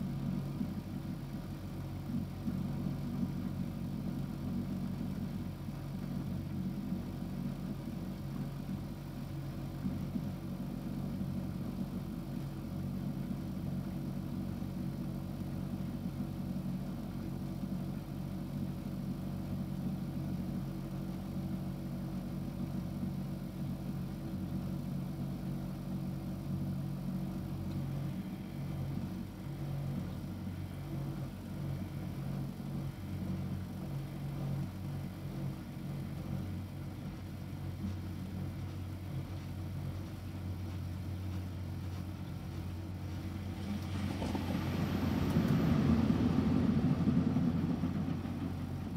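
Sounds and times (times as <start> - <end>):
washing machine humming: 0.0 - 48.9.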